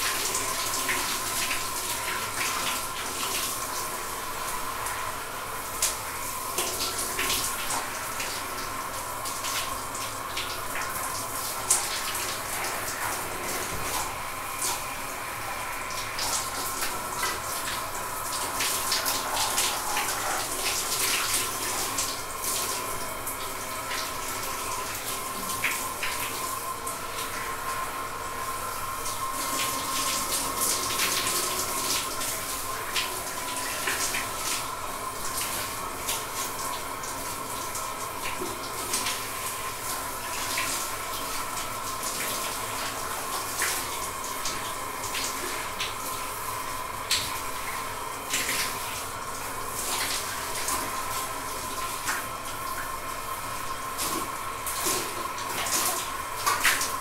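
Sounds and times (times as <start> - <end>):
shower running: 0.0 - 57.0.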